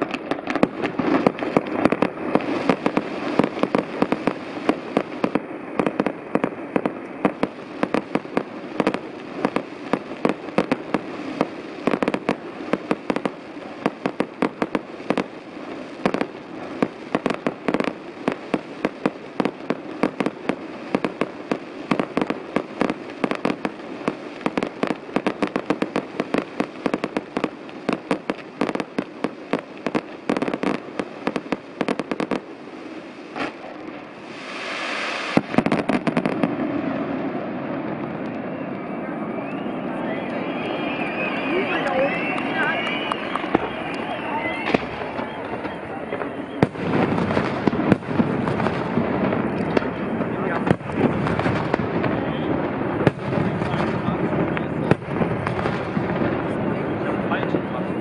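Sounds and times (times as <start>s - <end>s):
fireworks bursts and crackling: 0.0s - 58.0s.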